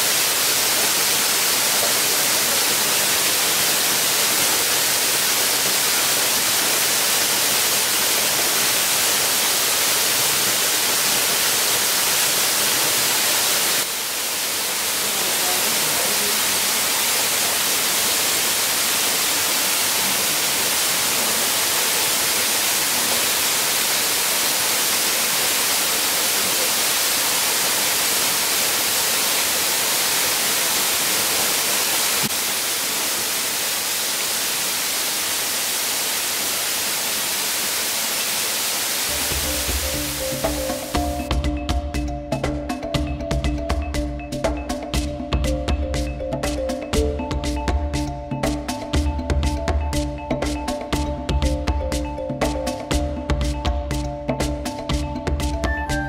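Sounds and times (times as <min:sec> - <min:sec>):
steady bright hiss: 0:00.0 - 0:56.0.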